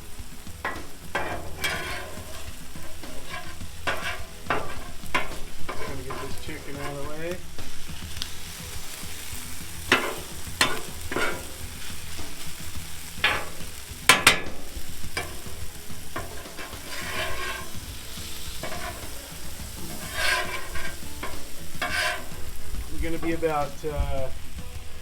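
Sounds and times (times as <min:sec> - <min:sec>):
metal spatula clanking and scraping: 0:00.0 - 0:24.7
chicken sizzling on a griddle: 0:00.0 - 0:25.0.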